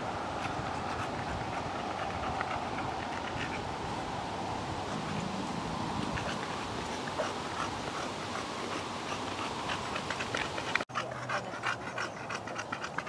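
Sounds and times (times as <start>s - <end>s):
background hiss: 0.0s - 10.9s
dog panting: 0.3s - 3.7s, 4.8s - 13.0s.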